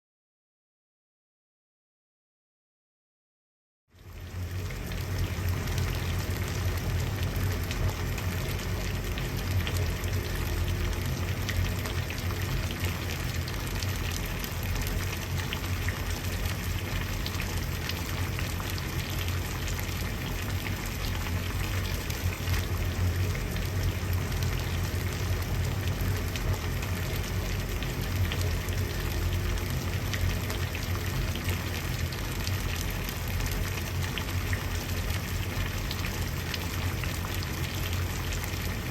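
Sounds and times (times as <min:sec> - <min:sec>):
water boiling: 0:03.9 - 0:38.9.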